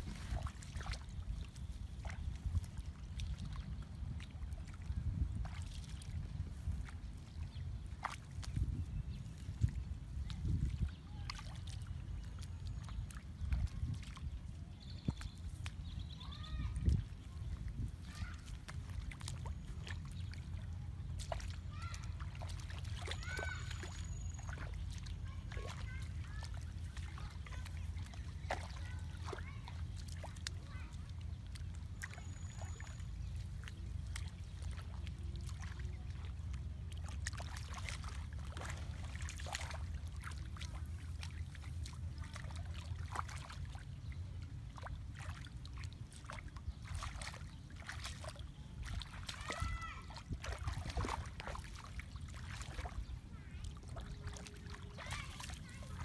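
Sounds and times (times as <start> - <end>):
hands splashing in water: 0.0 - 16.0, 16.8 - 44.0, 44.7 - 53.1.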